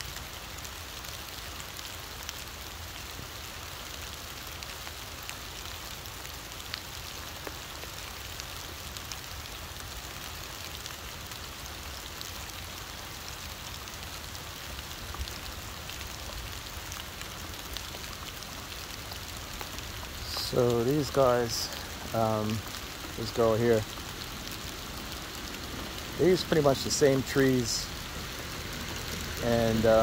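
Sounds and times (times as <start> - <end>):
rain falling on leaves: 0.0 - 30.0.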